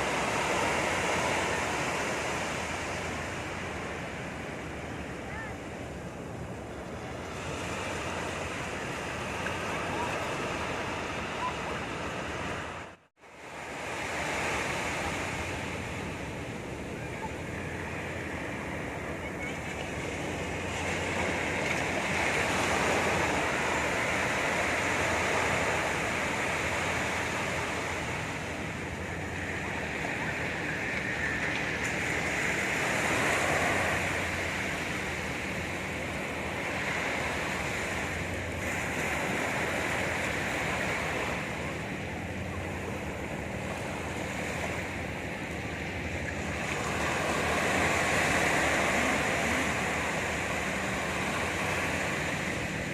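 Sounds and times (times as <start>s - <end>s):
sea surf breaking on beach: 0.0s - 52.9s.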